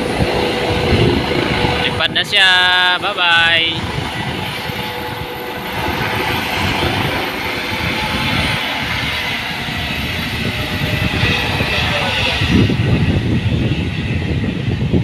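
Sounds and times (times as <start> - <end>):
helicopter engine and rotor: 0.0 - 15.0
low rumble: 0.0 - 15.0.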